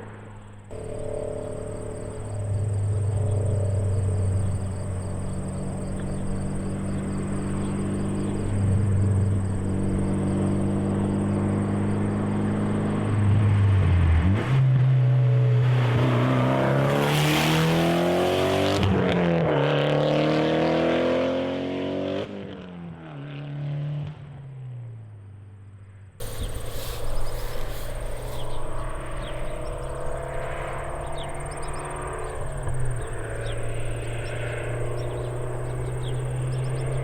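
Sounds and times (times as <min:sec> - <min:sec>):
engine running at low revs: 0:00.0 - 0:19.3, 0:26.2 - 0:37.0
car engine accelerating hard: 0:00.0 - 0:24.4, 0:26.2 - 0:37.0.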